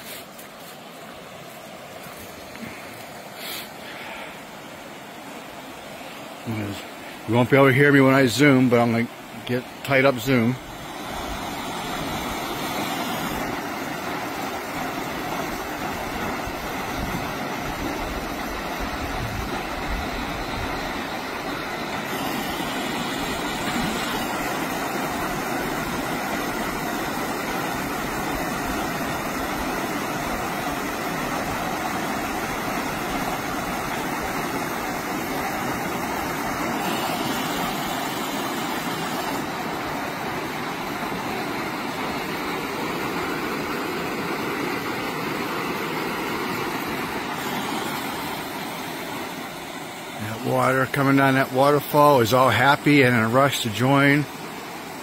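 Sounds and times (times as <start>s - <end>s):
water rushing down waterfall: 0.0s - 55.0s.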